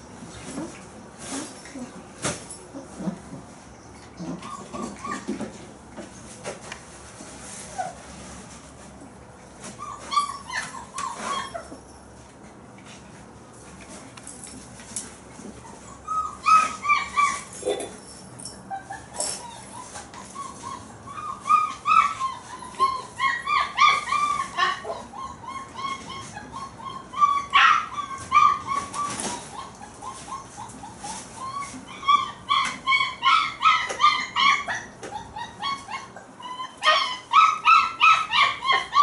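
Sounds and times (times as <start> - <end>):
puppies whining and yipping: 0.1 - 6.2, 7.4 - 8.3, 9.0 - 13.0, 14.4 - 39.0.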